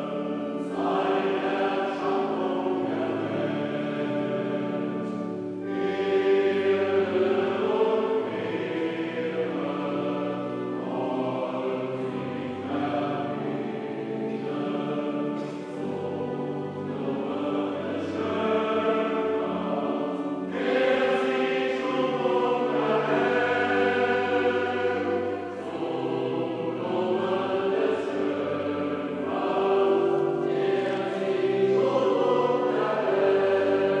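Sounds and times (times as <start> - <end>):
choir singing sustained chords: 0.0 - 34.0.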